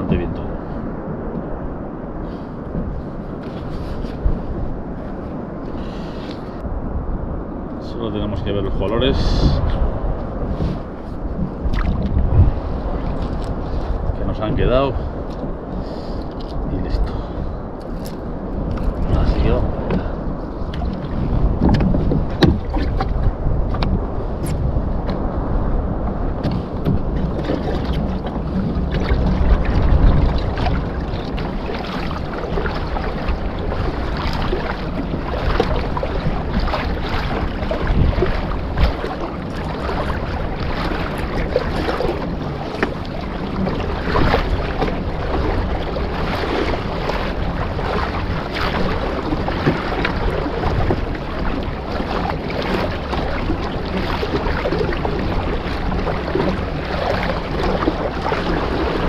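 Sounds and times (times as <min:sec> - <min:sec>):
water splashing against hull: 0:00.0 - 0:59.0
wind buffeting microphone: 0:00.0 - 0:59.0.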